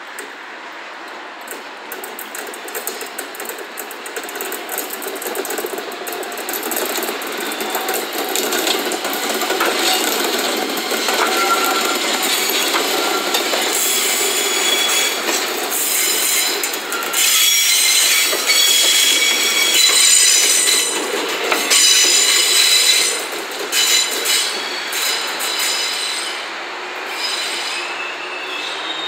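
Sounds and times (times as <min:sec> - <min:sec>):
train wheels squealing on rails: 0:02.4 - 0:29.0.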